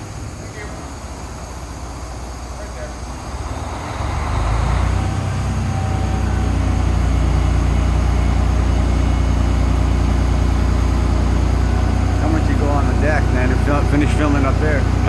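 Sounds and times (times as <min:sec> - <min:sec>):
heavy truck engine revving: 0:00.0 - 0:15.0.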